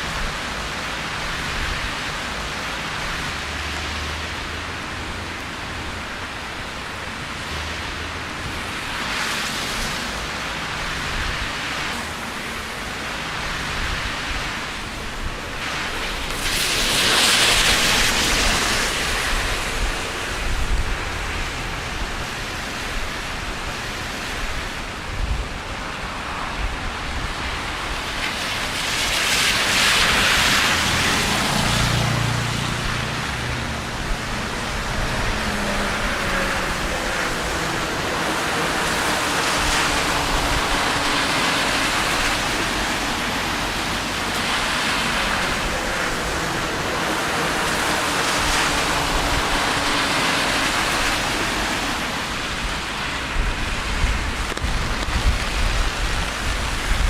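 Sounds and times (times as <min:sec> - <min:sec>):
rain on street: 0:00.0 - 0:57.0
vehicles passing on wet road: 0:00.0 - 0:57.0.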